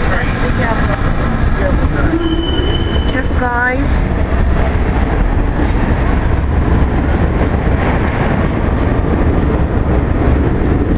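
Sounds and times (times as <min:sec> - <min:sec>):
subway train wheels rumbling: 0:00.0 - 0:10.9.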